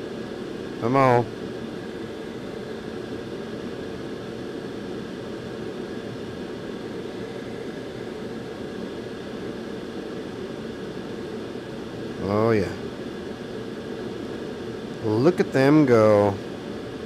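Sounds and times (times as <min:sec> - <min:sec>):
faint fan hum: 0:00.0 - 0:17.0.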